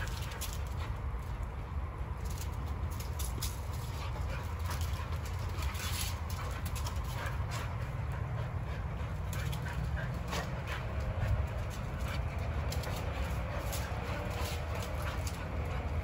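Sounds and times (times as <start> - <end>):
dogs making play noises: 0.0 - 16.0
steady low rumble: 0.0 - 16.0.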